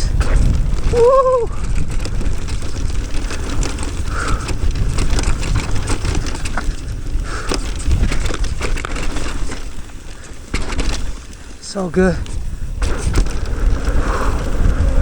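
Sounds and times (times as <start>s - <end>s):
bike rattling clicks and knocks: 0.0s - 15.0s
tyres crunching over dirt: 0.0s - 15.0s
wind rumbling on microphone: 0.0s - 15.0s.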